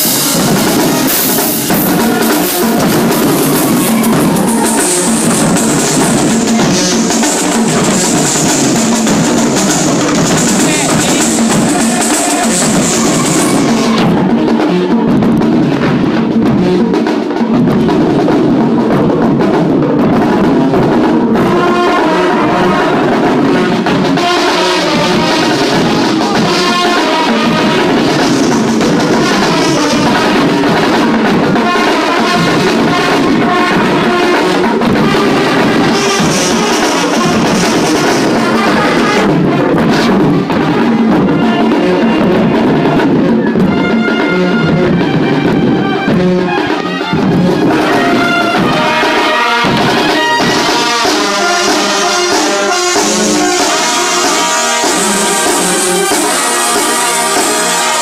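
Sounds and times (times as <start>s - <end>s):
marching band brass: 0.0s - 58.0s
snare and bass drums: 0.0s - 58.0s.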